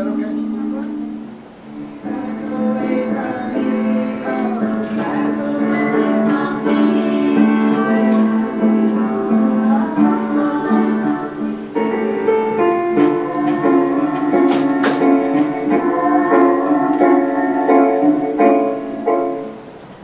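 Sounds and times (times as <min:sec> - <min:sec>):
instrumental accompaniment: 0:00.0 - 0:20.0
women's chorus singing: 0:01.8 - 0:19.6.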